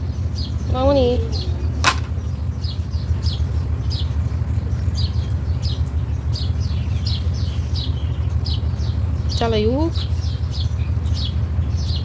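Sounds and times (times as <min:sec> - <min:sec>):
small bird chirping: 0:00.0 - 0:12.0
steady low rumble: 0:00.0 - 0:12.0.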